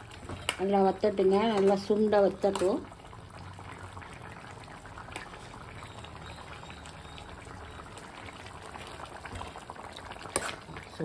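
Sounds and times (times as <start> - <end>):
thick gravy bubbling: 0.0 - 11.0.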